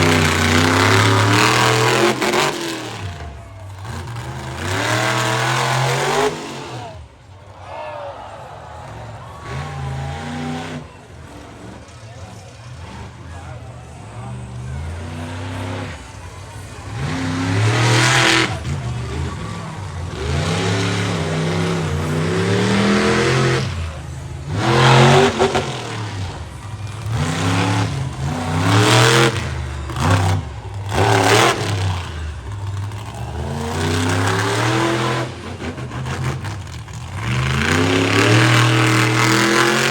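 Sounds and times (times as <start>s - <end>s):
truck engine revving: 0.0s - 7.5s, 8.8s - 39.9s.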